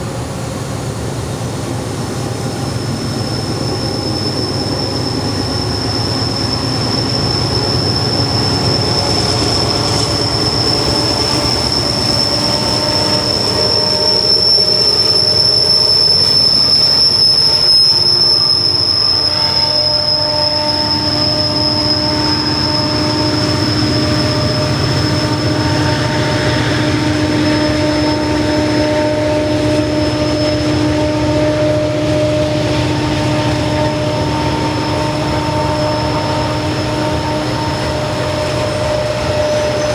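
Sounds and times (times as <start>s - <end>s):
freight train wheels rumbling: 0.0s - 39.9s
lower squealing tones: 2.1s - 39.9s
high-pitched wheel squeal: 2.2s - 39.9s.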